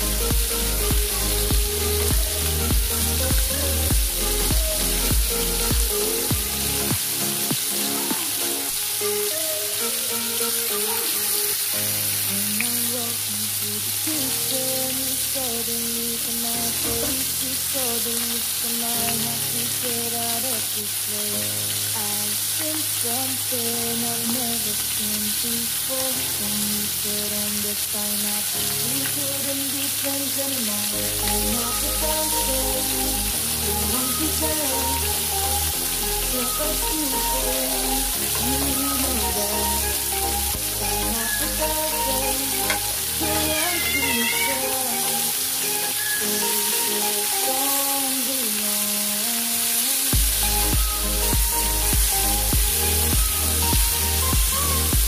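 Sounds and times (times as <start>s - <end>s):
background music: 0.0s - 55.0s
fish frying in hot oil: 0.0s - 55.0s.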